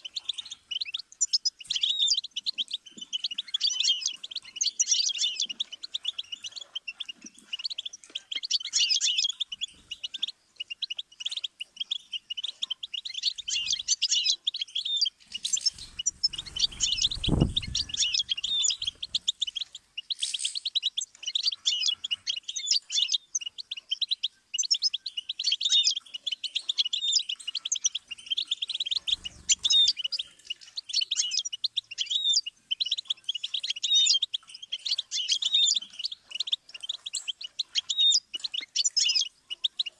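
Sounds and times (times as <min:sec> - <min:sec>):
goldfinch singing: 0:00.0 - 0:39.9.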